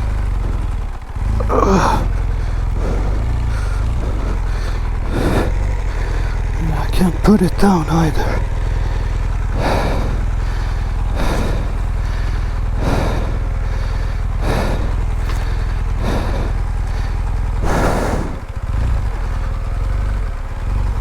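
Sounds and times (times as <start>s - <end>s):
heavy breathing into microphone: 0.0s - 19.7s
motorcycle engine idling: 0.0s - 21.0s.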